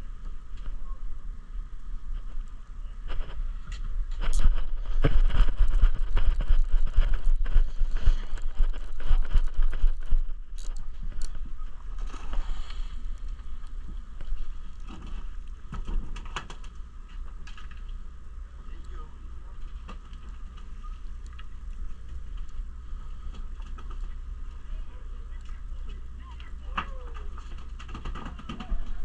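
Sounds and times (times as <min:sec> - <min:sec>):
boat engine rumble: 0:00.0 - 0:27.8.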